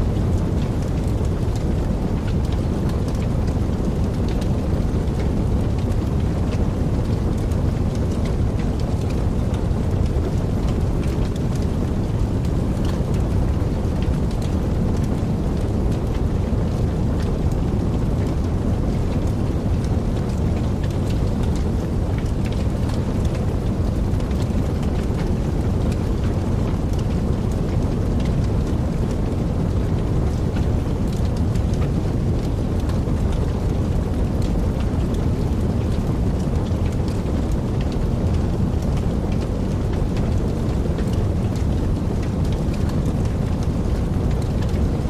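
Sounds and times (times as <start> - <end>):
fire crackling and popping: 0.0 - 45.0
fire flames rumbling: 0.0 - 45.0.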